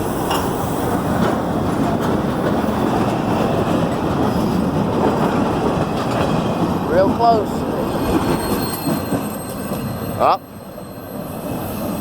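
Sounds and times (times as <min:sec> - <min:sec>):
wheels clicking over rail joints: 0:00.0 - 0:10.0
train wheels rumbling on rails: 0:00.0 - 0:12.0.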